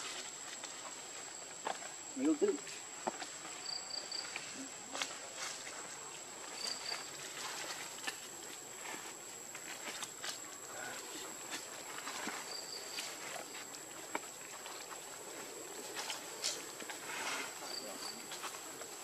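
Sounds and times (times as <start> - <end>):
rustles in dry leaves: 0.0 - 19.0.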